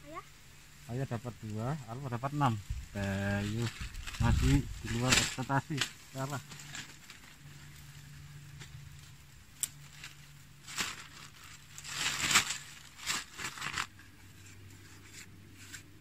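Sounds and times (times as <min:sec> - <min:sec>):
rustling of dry leaves: 0:00.0 - 0:16.0.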